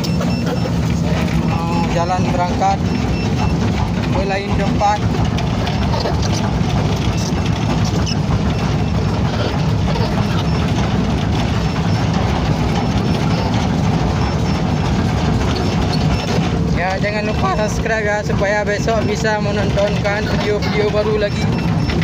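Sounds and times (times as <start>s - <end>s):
heavy engine droning: 0.0s - 22.0s.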